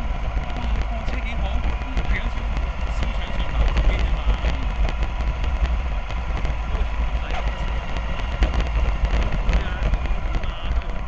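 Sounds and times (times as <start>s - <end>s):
model bus motor humming and whining: 0.0s - 11.0s
wind rumble on microphone: 0.0s - 11.0s.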